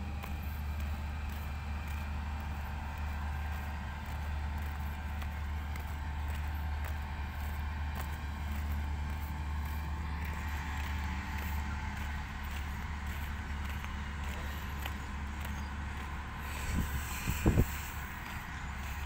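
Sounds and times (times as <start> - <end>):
distant diesel engine rumble: 0.0 - 19.0.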